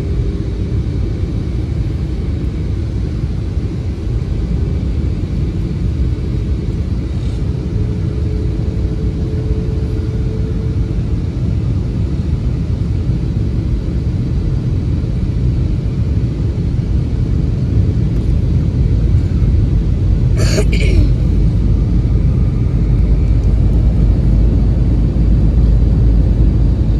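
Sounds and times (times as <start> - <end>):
airliner cabin engine rumble: 0.0 - 26.9
faint steady hum: 0.0 - 26.9.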